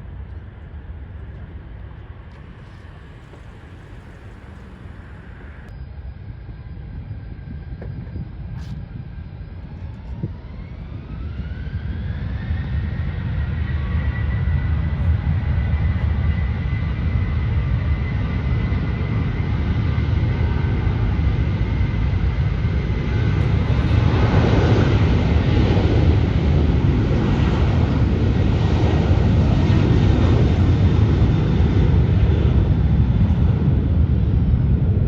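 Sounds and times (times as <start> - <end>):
jet engines rumbling: 0.0 - 35.0
jet engine whine rising in pitch: 0.1 - 35.0.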